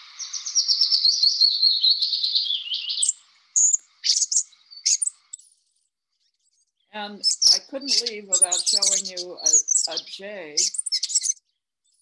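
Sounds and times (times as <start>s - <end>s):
short sharp high bird calls: 0.0s - 5.5s, 7.2s - 11.4s
songbird song: 0.0s - 12.0s.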